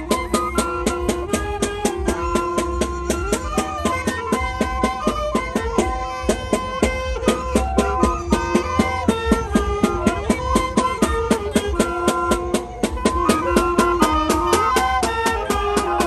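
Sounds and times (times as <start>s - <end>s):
flutes playing melody: 0.0s - 16.0s
rapid drum strokes: 0.0s - 16.0s.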